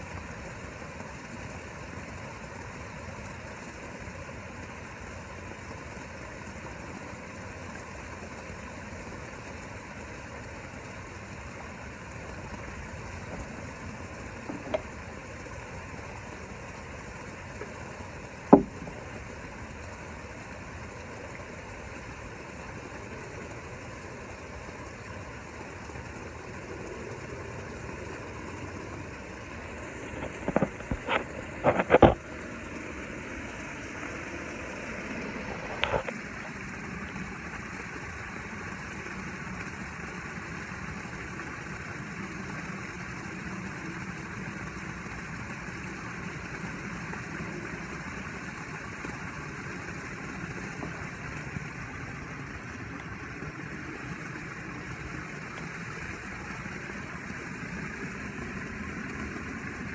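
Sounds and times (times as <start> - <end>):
pool filter pump humming: 0.0 - 59.9.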